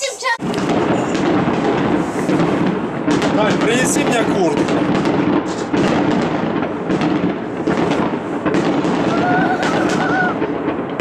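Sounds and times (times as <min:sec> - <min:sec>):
fireworks crackling: 0:00.0 - 0:11.0
firework shells bursting: 0:00.4 - 0:11.0.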